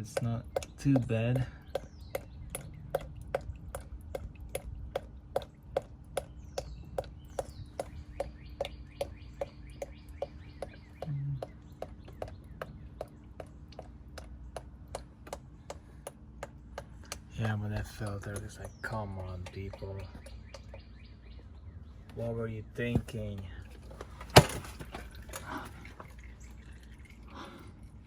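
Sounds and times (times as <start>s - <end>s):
oil dripping into a pan: 0.0s - 20.9s, 25.0s - 28.0s.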